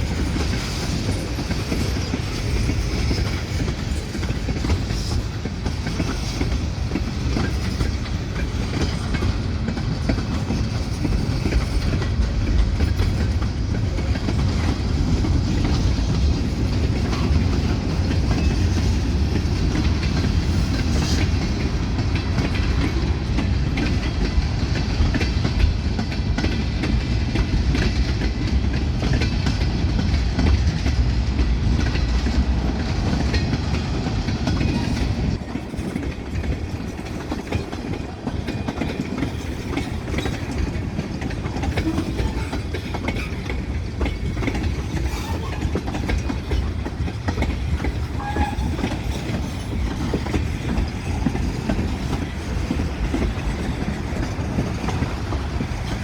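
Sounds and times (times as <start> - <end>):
train cars rumbling past: 0.0 - 56.0
wheels clicking over rail joints: 0.0 - 56.0.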